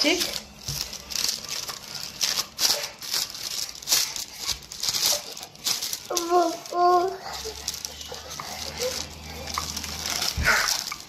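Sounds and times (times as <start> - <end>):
rolling pin on baking paper: 0.0 - 11.0.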